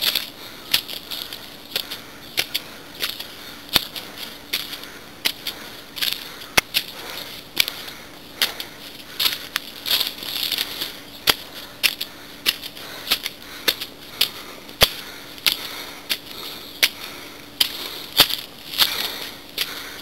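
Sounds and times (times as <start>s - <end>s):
footsteps on stone steps: 0.0s - 20.0s.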